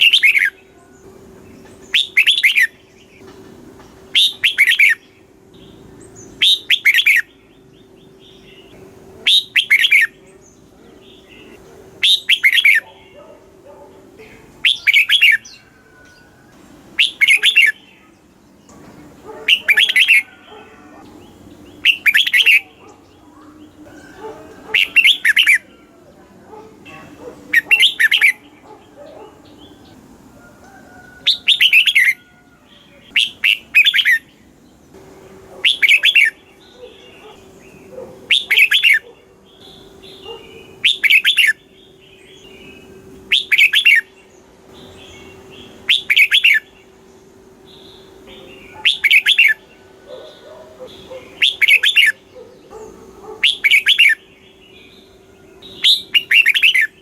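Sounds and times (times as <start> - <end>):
bird singing: 0.0 - 57.0
faint steady hum: 0.0 - 57.0.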